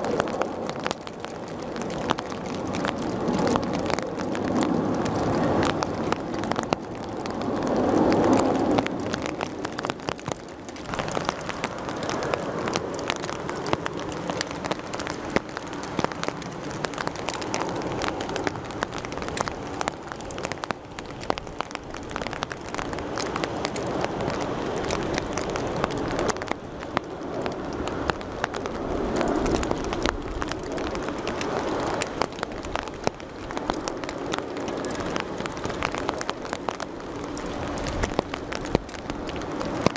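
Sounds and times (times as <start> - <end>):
airliner jet engines: 0.0 - 39.9
raindrops crackling near microphone: 0.0 - 39.9
steady rain: 0.0 - 39.9.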